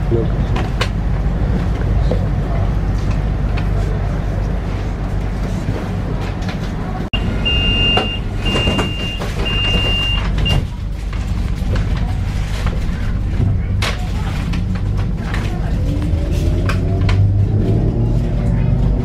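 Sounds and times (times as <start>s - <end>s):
tram rumbling: 0.0s - 19.0s.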